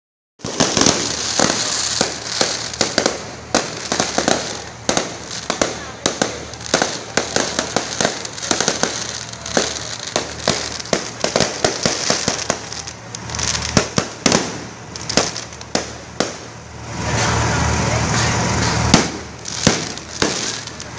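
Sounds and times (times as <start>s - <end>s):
fireworks bangs and pops: 0.4s - 20.9s
fireworks hiss: 0.4s - 20.9s.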